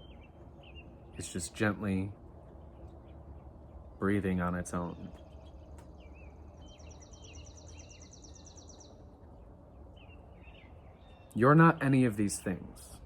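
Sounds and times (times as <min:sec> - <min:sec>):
low hum: 0:00.0 - 0:13.0
small birds chirping: 0:00.0 - 0:13.0.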